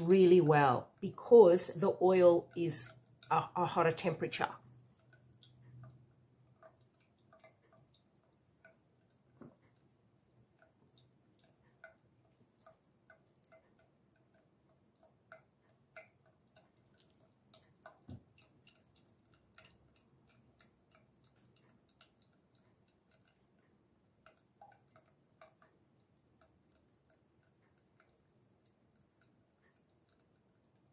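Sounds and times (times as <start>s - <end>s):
oil dripping into metal bowl: 0.0s - 30.9s.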